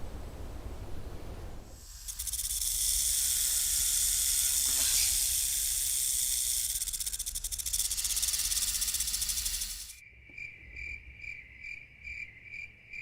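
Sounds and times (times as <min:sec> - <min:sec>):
insect chorus pulsing buzz: 0:01.7 - 0:13.0.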